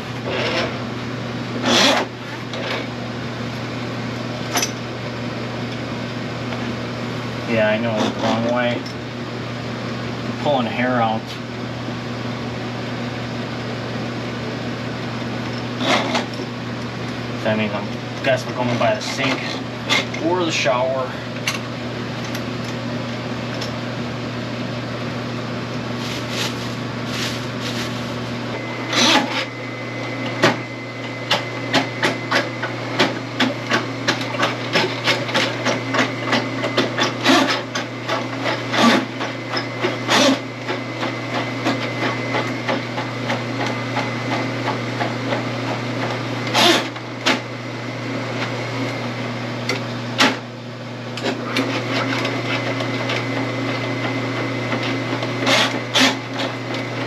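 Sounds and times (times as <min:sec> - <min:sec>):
drain-cleaning machine humming: 0:00.0 - 0:57.0.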